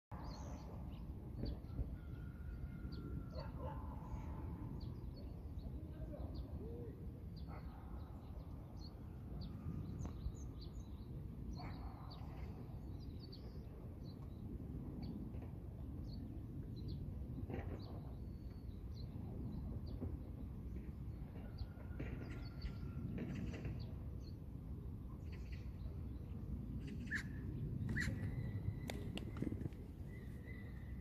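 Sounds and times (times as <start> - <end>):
low outdoor rumble: 0.1 - 31.0.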